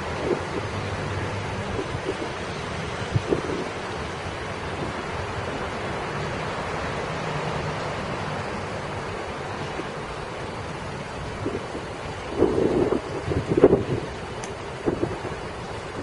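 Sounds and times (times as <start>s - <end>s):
road traffic rushing: 0.0s - 16.0s
trucks and cars passing: 0.0s - 16.0s.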